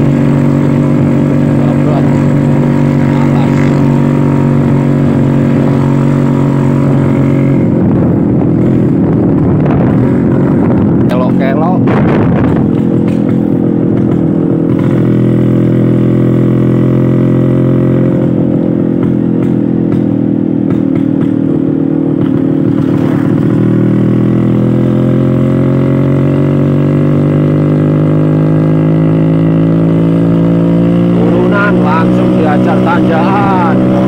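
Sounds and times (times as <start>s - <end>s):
blatty two-stroke scooter engine: 0.0s - 34.0s.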